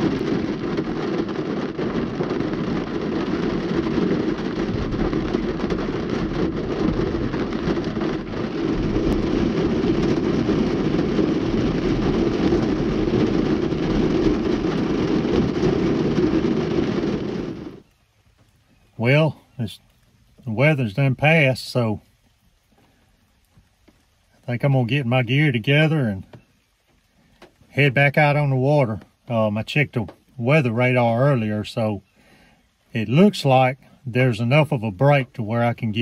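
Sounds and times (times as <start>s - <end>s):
heavy rain on a vehicle roof: 0.0s - 36.0s.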